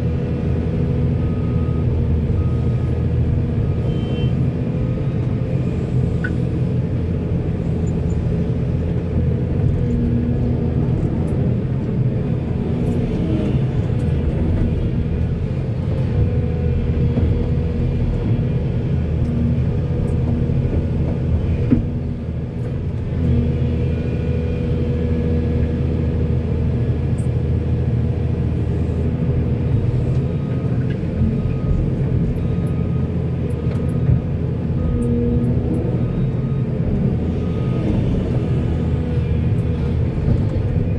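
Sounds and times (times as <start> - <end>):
diesel engines rumbling: 0.0 - 40.9.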